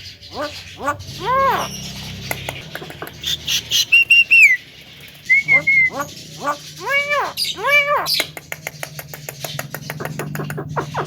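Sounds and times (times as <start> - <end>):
myna bird calling: 0.0 - 11.0.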